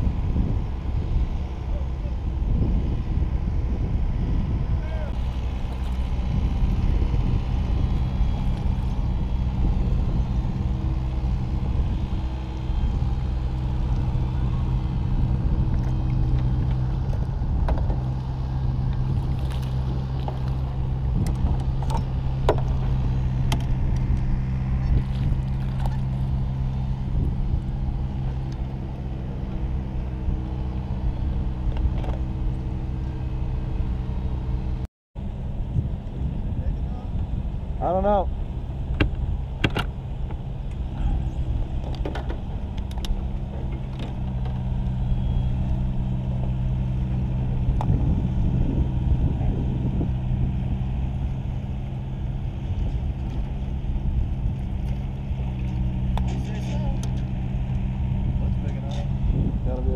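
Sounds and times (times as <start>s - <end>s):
engine hum: 0.0s - 59.9s.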